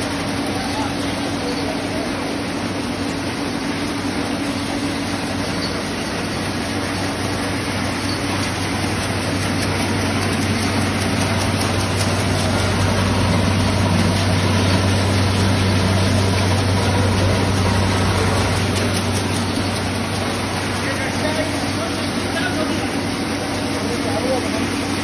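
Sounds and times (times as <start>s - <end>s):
machine motor humming: 0.0s - 25.0s.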